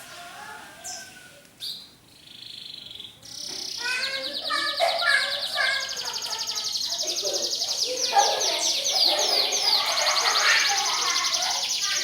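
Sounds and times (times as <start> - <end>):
canary singing: 0.8 - 12.0.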